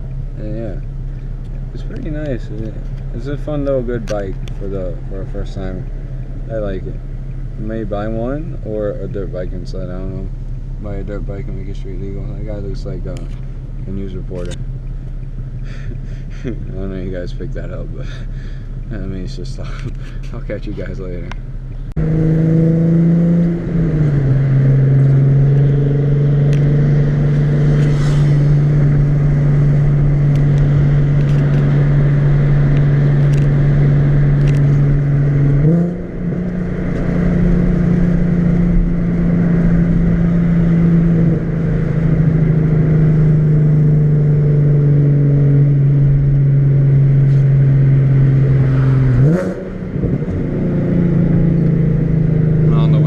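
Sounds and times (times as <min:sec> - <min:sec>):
car engine droning: 0:00.0 - 0:53.0.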